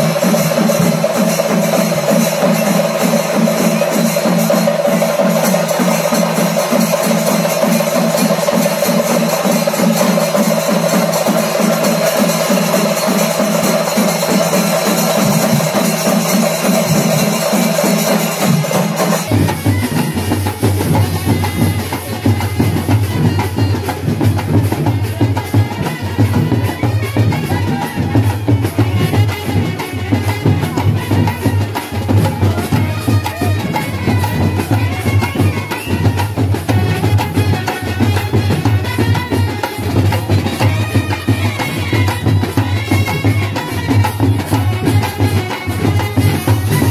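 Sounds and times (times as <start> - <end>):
bass drum and side drums: 0.0 - 46.9
chenda drums pounding: 0.0 - 46.9.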